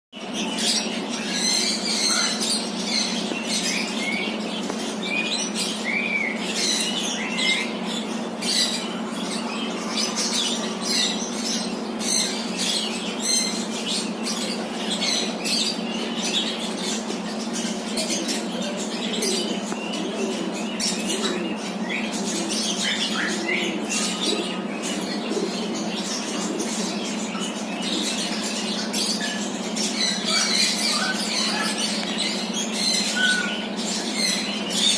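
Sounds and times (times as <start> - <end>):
small birds chirping: 0.2 - 34.9
steady low hum: 0.2 - 34.9.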